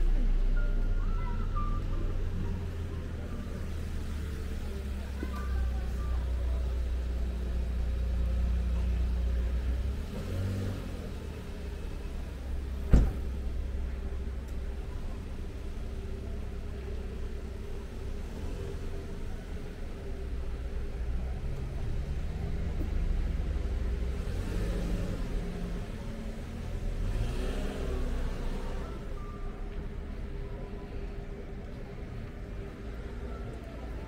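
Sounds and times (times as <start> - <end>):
car engine pulling away: 2.2 - 34.0.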